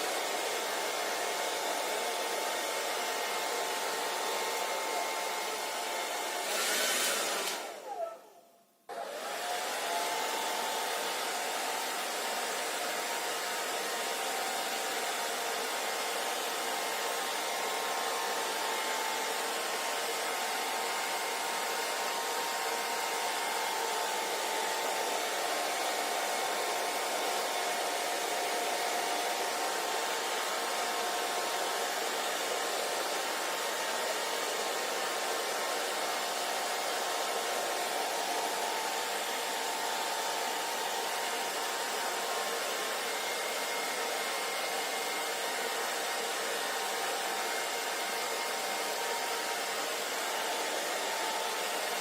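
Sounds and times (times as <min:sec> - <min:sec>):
hair dryer running: 0:00.0 - 0:08.2, 0:08.9 - 0:52.0.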